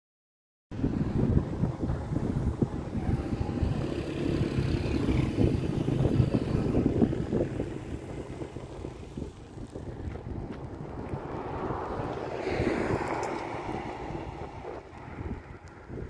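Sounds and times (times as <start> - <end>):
wind buffeting microphone: 0.7 - 16.0
vehicle engine passing: 0.8 - 16.0.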